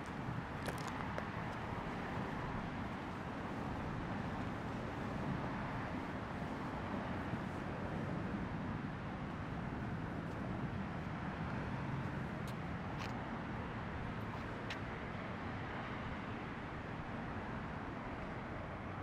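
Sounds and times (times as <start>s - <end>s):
distant road traffic rumble: 0.0s - 16.7s.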